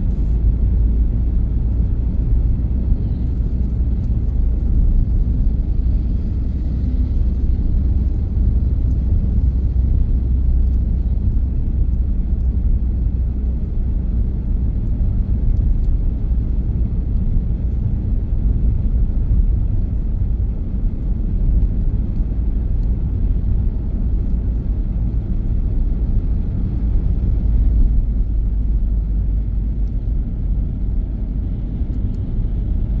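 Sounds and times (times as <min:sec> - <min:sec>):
car interior road and engine rumble: 0:00.0 - 0:33.0.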